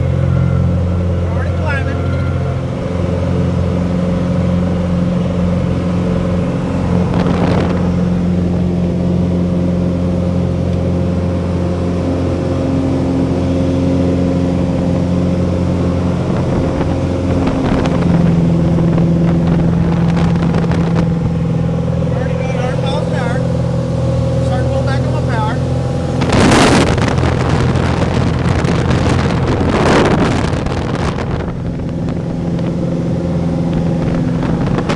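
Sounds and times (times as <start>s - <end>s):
aircraft engine and propeller droning: 0.0s - 34.9s.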